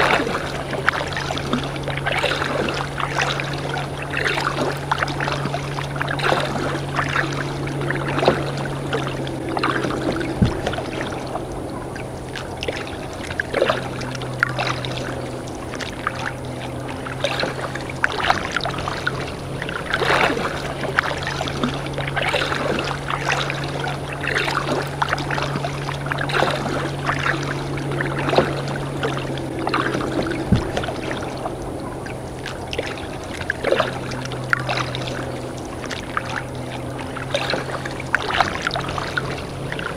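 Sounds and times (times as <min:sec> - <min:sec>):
paddle strokes splashing water: 0:00.0 - 0:39.9
steady low hum: 0:00.0 - 0:39.9.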